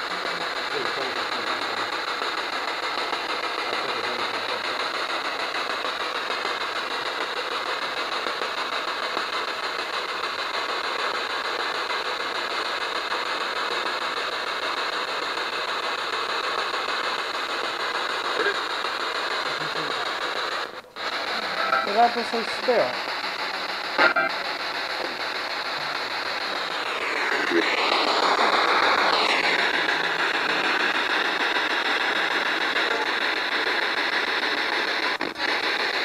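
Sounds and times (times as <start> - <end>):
steady hissing noise: 0.0 - 36.0.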